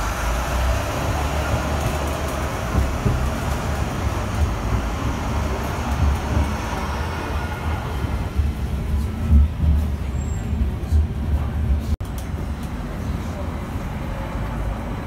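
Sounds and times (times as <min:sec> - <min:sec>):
tram interior rumble: 0:00.0 - 0:15.0.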